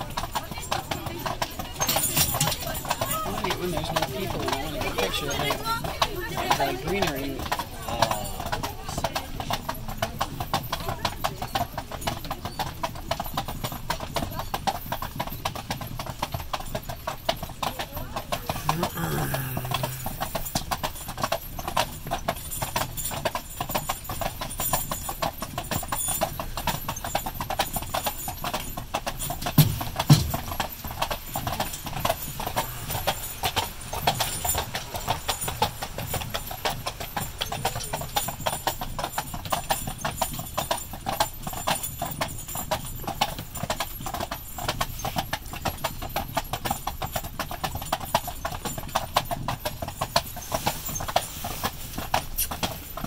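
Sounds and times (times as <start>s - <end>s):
hooves clip-clopping on pavement: 0.0s - 53.0s.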